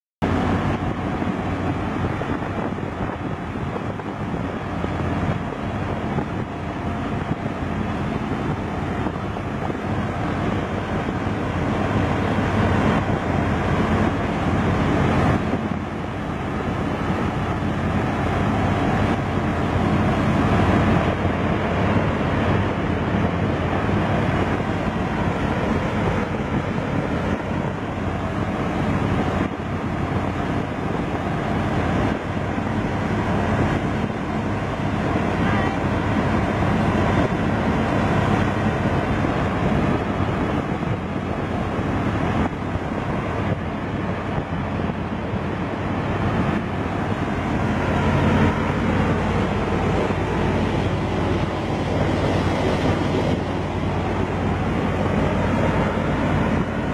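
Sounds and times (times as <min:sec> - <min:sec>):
hovercraft engine and fans: 0:00.2 - 0:56.9
wind buffeting microphone: 0:00.2 - 0:56.9.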